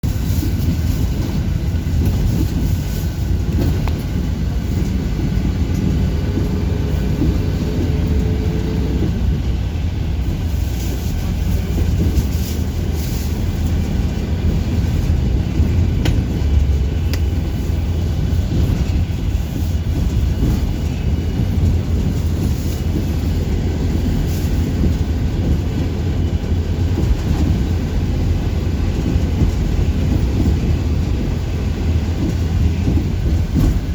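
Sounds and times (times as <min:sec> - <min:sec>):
bus engine and road rumble: 0:00.0 - 0:33.9.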